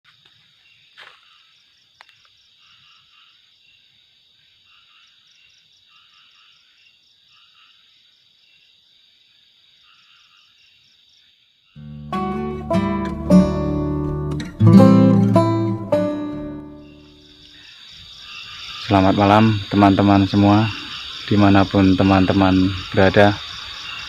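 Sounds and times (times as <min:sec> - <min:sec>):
insects trilling: 0:00.1 - 0:12.2, 0:15.3 - 0:24.0
frogs calling: 0:00.2 - 0:12.5, 0:15.3 - 0:24.0.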